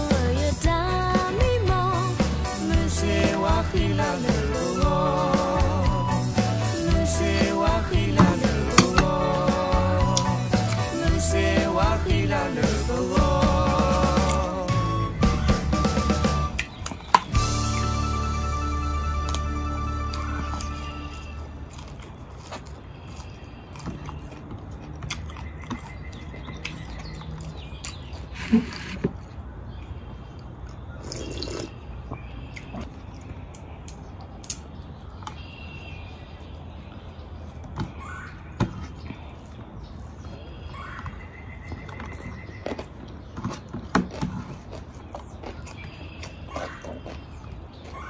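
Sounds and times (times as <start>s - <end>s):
chewing and eating: 0.0s - 48.0s
birds calling: 1.2s - 24.6s, 25.2s - 48.0s.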